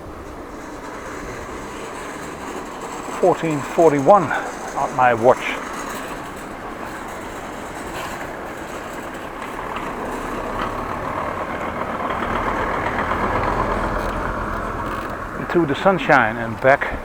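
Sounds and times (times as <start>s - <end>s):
low motor vehicle rumble: 0.0s - 17.0s
road and traffic noise: 0.0s - 17.0s.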